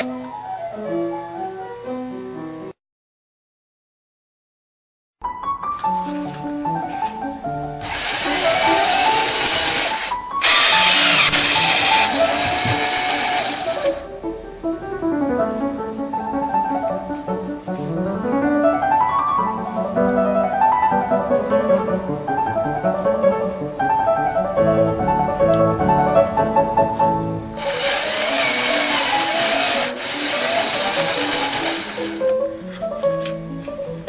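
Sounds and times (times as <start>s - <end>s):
music with shifting melody: 5.8s - 34.0s.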